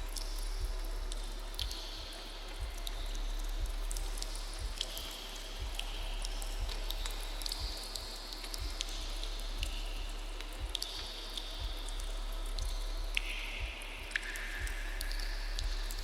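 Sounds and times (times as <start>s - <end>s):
deep heartbeat pulse: 0.0s - 16.0s
water dripping and trickling: 0.0s - 16.0s.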